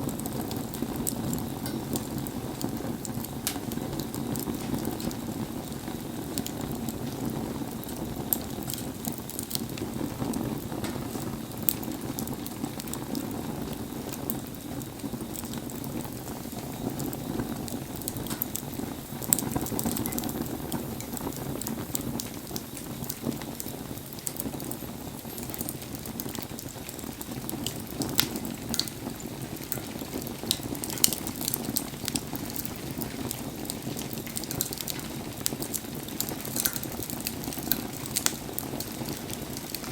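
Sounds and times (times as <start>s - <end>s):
bonfire hissing in rain: 0.0s - 39.9s
fire crackles and pops: 0.0s - 39.9s.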